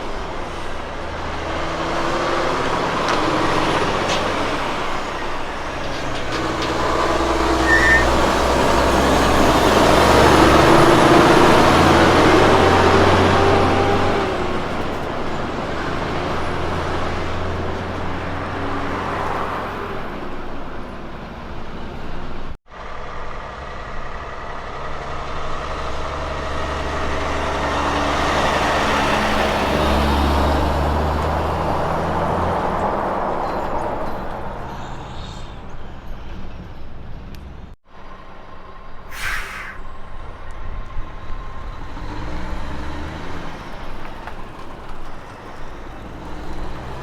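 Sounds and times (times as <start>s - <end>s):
diesel truck engine drone: 0.0s - 47.0s
tyre and road noise: 0.0s - 47.0s.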